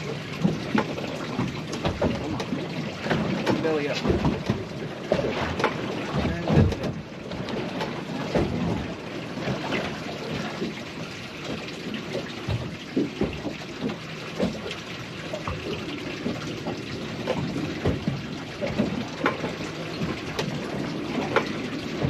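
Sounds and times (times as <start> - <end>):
water slapping against boat: 0.0 - 22.0.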